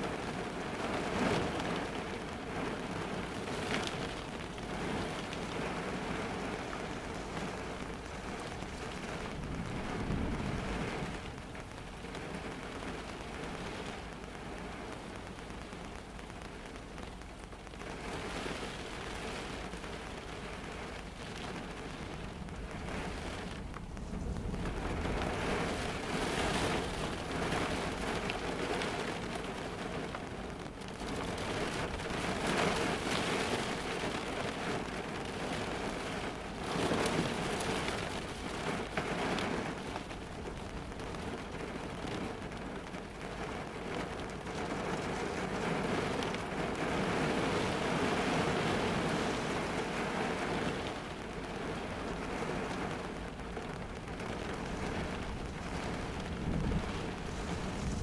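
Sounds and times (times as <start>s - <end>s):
heavy rain drumming on a car: 0.0s - 58.0s.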